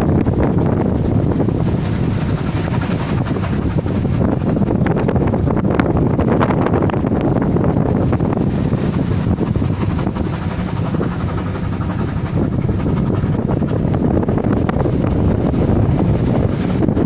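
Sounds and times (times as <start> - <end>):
boat engine rumble: 0.0 - 17.0
sea: 0.0 - 17.0
wind on microphone: 0.0 - 17.0.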